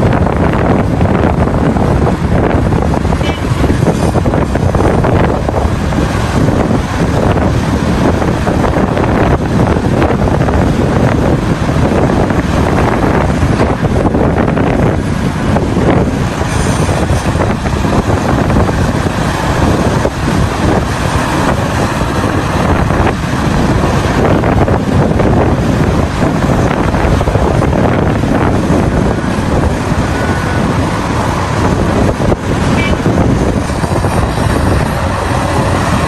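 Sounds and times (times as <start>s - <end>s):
heavy machinery engine: 0.0s - 36.0s
wind buffeting microphone: 0.0s - 36.0s.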